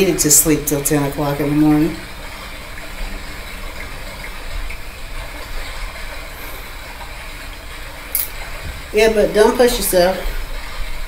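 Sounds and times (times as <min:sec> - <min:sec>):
rushing water noise: 0:00.0 - 0:11.0.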